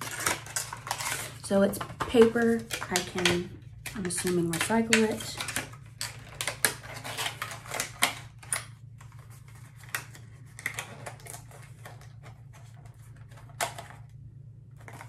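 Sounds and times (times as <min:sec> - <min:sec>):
paper packaging clicks and rustles: 0:00.0 - 0:15.0
steady low hum: 0:00.0 - 0:15.0.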